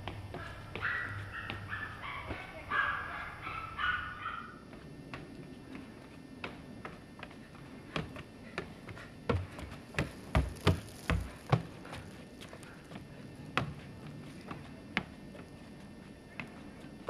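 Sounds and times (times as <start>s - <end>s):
running footsteps on wooden boardwalk: 0.0s - 2.6s, 4.6s - 17.0s.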